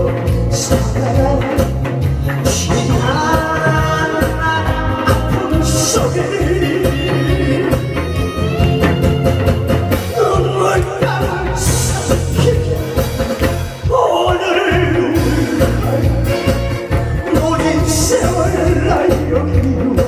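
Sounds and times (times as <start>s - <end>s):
live band playing trot song: 0.0s - 20.0s.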